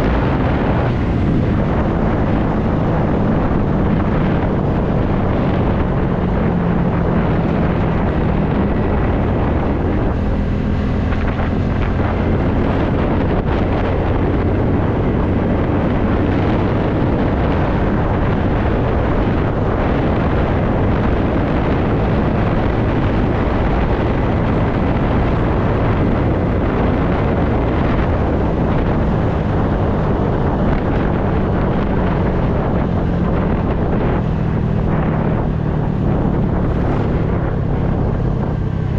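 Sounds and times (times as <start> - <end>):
road noise: 0.0 - 38.9
wind rushing over microphone: 0.0 - 38.9.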